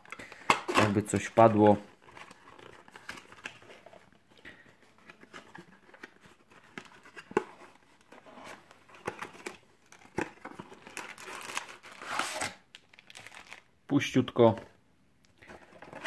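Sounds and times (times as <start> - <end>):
card and foil packs rustling: 0.0 - 13.7, 15.4 - 16.0.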